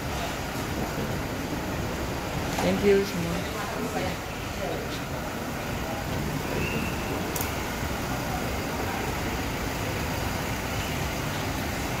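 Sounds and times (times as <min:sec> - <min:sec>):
parking garage rumble and hiss: 0:00.0 - 0:12.0.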